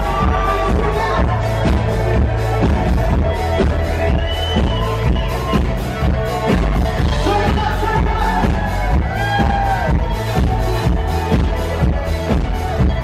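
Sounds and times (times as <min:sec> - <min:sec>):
live band playing pop music: 0:00.0 - 0:13.0.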